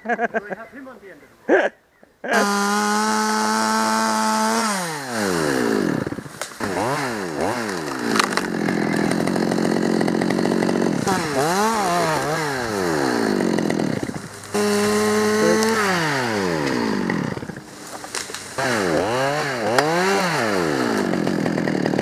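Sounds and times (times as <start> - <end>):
chainsaw cutting wood: 2.3 - 22.0
chainsaw engine revving: 2.3 - 22.0.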